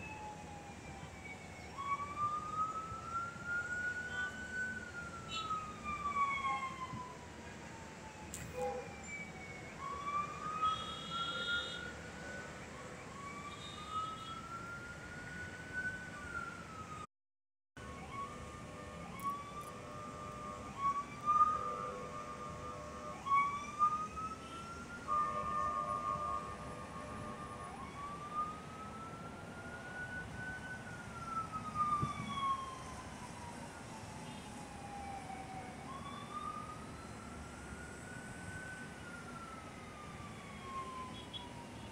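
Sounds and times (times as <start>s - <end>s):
city traffic hum: 0.0s - 17.1s, 17.8s - 41.9s
siren wailing: 0.0s - 17.1s, 17.8s - 41.9s.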